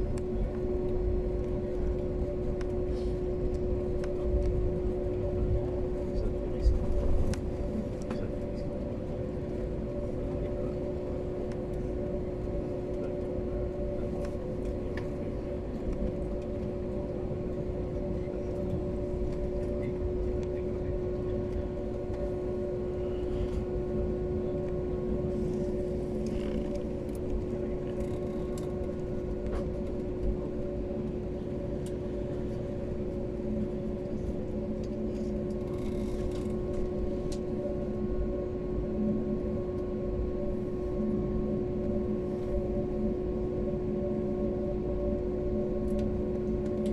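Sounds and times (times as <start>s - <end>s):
jet engines drone in cabin: 0.0s - 46.9s.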